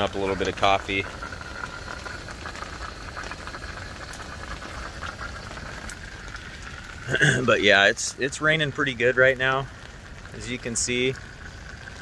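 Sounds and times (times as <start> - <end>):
camp stove hissing: 0.0 - 12.0
rain pattering: 0.0 - 12.0.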